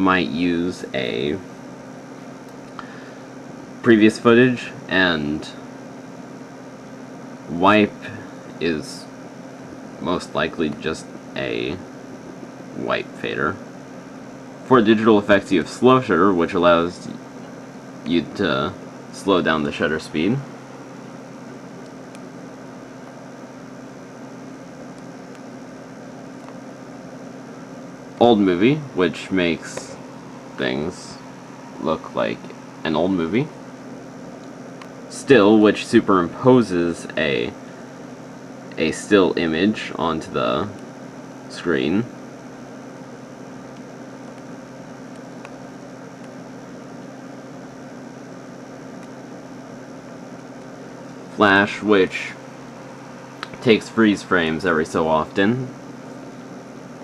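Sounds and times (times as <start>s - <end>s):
machine hum with hiss: 0.0s - 57.0s.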